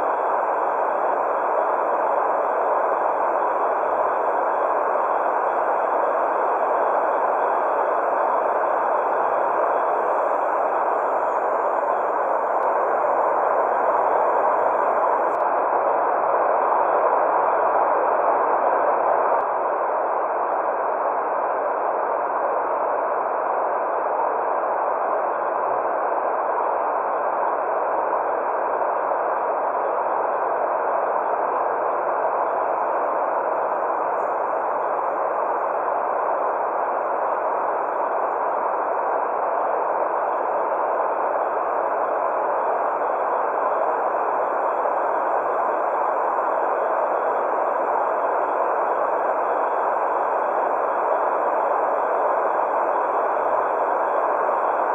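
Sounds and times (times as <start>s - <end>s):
steady white noise hiss: 0.0s - 54.9s.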